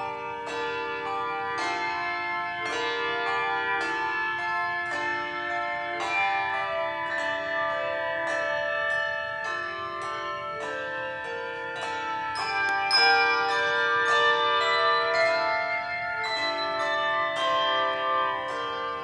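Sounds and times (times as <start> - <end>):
handbell choir ringing chords: 0.0 - 19.0.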